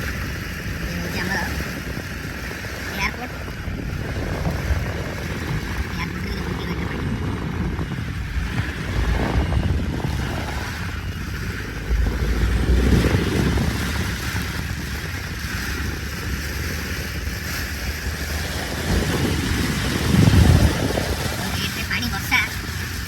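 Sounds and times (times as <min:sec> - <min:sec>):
low engine rumble: 0:00.0 - 0:23.0
water rushing under vehicle: 0:00.0 - 0:23.0
wind: 0:00.0 - 0:23.0.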